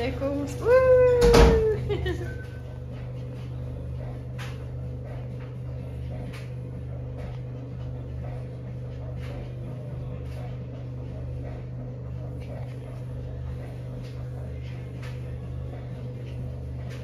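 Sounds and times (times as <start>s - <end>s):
steady low machine hum: 0.0s - 17.0s.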